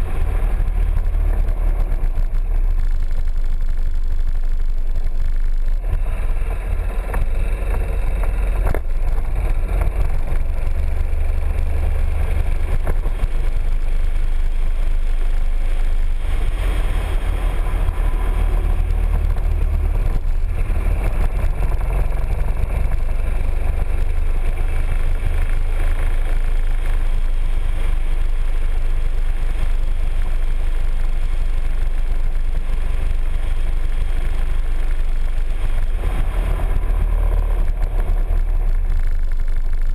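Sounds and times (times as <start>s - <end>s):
scooter engine and road noise: 0.0s - 39.9s.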